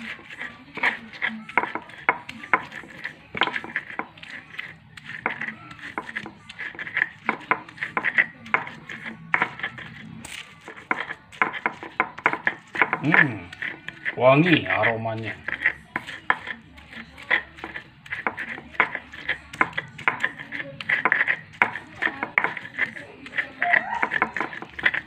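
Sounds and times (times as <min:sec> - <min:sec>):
stone pestle grinding on mortar: 0:00.0 - 0:25.0.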